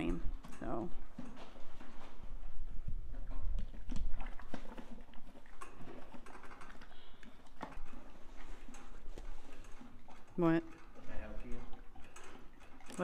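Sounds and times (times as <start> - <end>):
horse chewing feed: 0.1 - 13.0.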